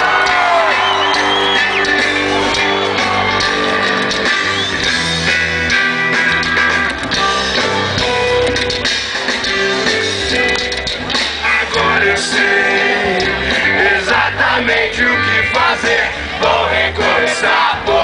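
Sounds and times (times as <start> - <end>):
electric guitar: 0.0 - 16.4
bass guitar: 0.0 - 18.0
drums: 0.0 - 18.0.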